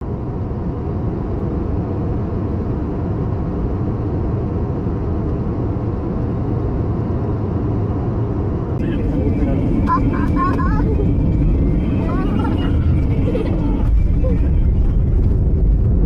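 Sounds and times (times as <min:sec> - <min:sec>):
airliner engines rumbling in cabin: 0:00.0 - 0:16.0.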